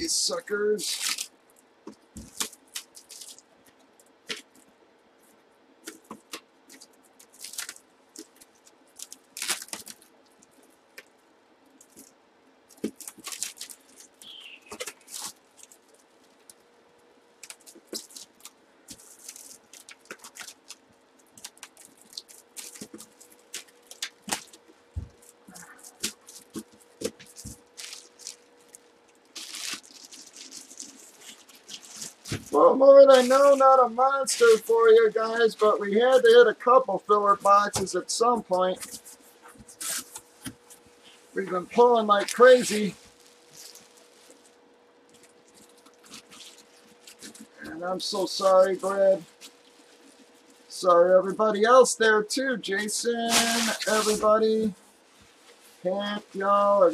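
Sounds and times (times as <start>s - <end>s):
plastic wrap crinkling: 0.4s - 16.7s, 17.4s - 36.5s, 37.2s - 50.9s, 53.1s - 56.9s.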